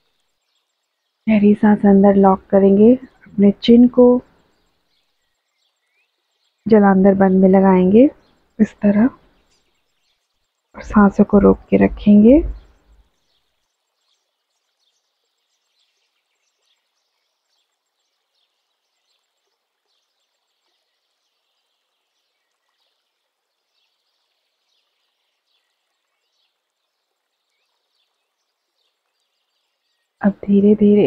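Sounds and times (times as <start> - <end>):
small bird chirps: 0.0 - 31.0.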